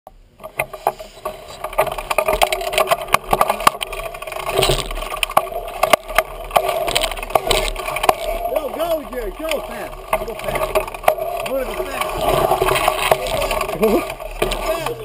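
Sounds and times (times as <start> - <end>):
bike rattling and knocking: 0.1 - 15.0
bike tyres rolling on dirt: 0.2 - 15.0.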